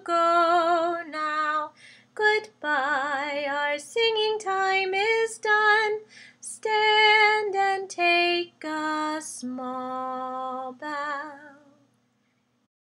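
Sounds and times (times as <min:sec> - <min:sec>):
woman singing: 0:00.0 - 0:11.8.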